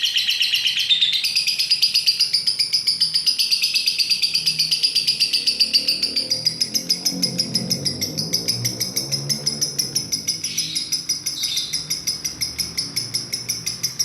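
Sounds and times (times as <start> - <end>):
lovebird chattering song: 0.0 - 14.0.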